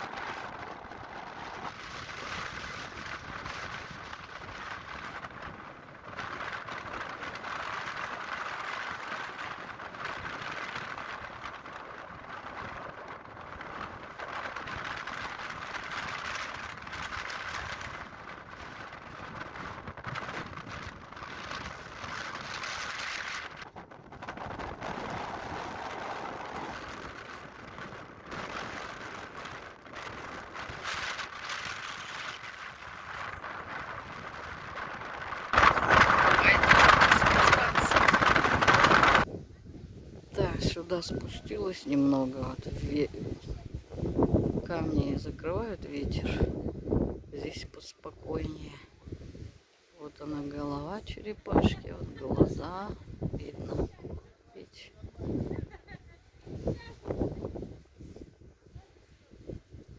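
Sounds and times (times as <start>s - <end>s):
strong wind rushing past microphone: 0.0s - 59.9s.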